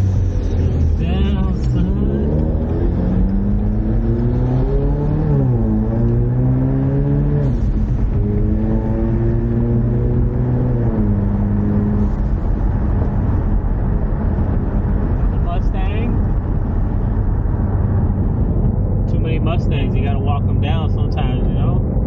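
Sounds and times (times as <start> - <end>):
car engine accelerating: 0.0 - 22.0
road and tyre noise: 0.0 - 22.0.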